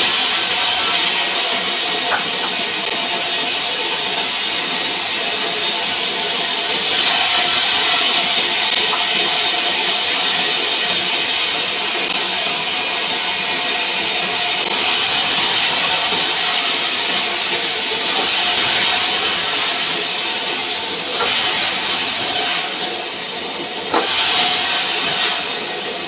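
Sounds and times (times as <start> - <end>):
sawmill saw cutting log: 0.0 - 5.8, 6.5 - 11.3, 14.6 - 23.1, 23.9 - 26.0.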